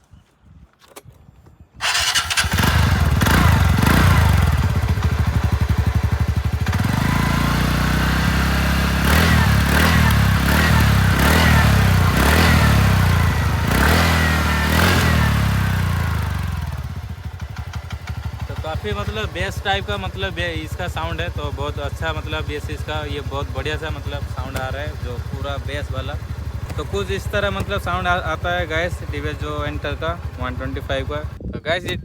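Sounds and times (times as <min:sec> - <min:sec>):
scooter engine revving: 0:01.8 - 0:31.4
scooter engine starting and idling: 0:01.8 - 0:31.4.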